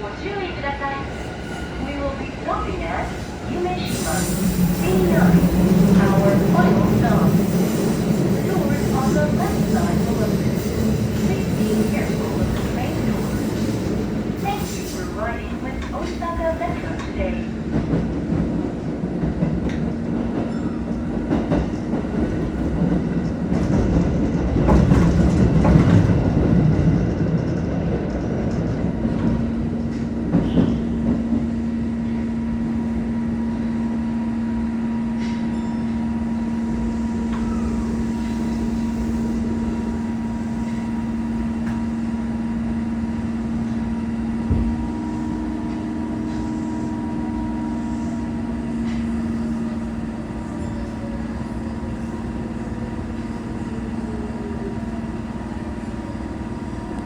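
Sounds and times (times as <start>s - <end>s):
train wheel noise: 0.0s - 57.0s.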